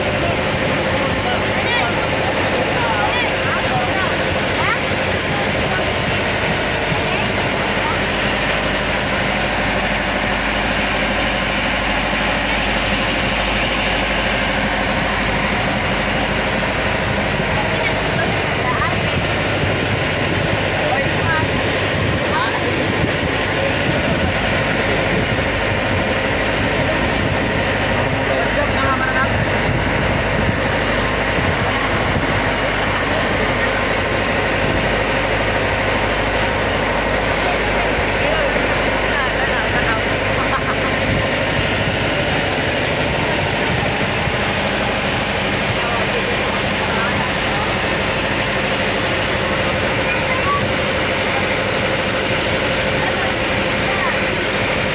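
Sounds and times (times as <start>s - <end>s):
boat engine drone: 0.0s - 54.9s
water splashing along hull: 0.0s - 54.9s.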